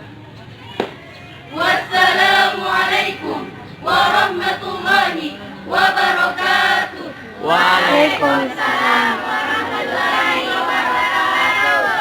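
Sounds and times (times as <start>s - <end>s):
choir singing: 1.5s - 12.0s.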